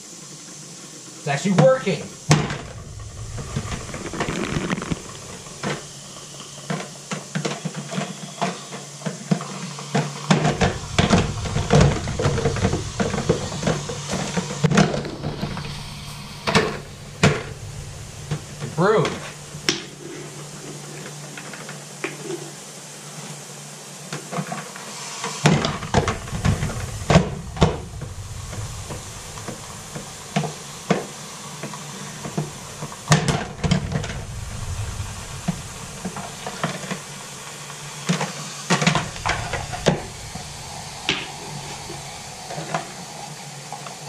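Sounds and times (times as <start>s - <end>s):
steam hissing: 0.0s - 44.0s.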